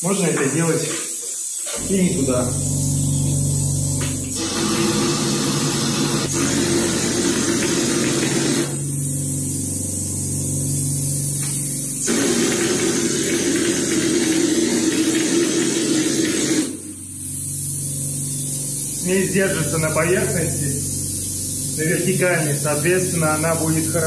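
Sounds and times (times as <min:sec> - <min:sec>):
compressed air spray gun hissing: 0:00.8 - 0:24.0
low hum: 0:01.8 - 0:14.4, 0:16.7 - 0:24.0.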